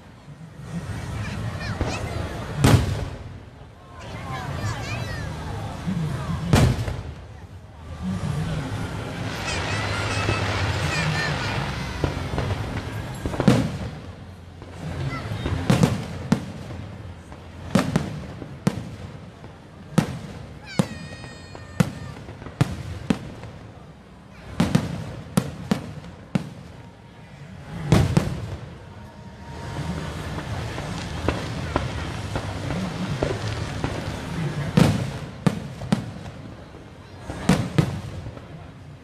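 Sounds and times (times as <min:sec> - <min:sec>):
fireworks bangs with rumbling echo: 0:00.0 - 0:39.0.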